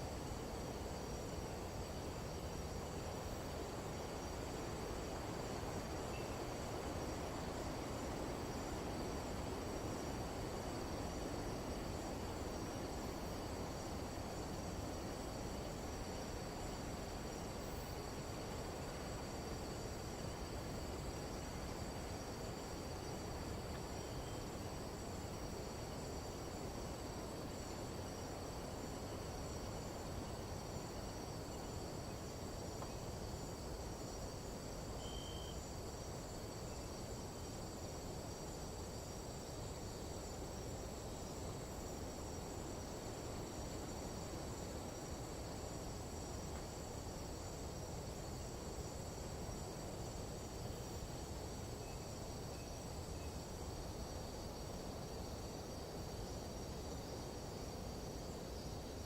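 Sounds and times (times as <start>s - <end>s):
insects trilling: 0.0s - 59.0s
short insect chirp: 0.0s - 59.0s.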